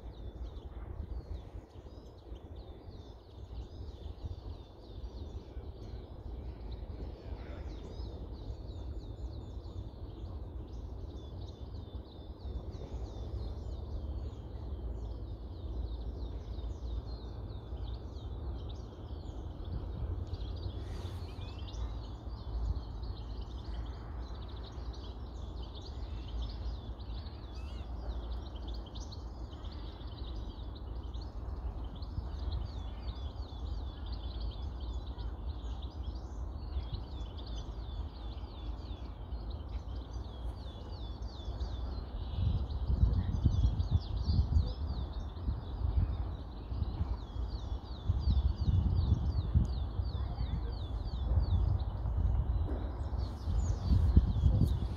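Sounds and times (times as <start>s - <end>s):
small birds chirping: 0.0s - 54.9s
wind rumble on microphone: 0.0s - 54.9s.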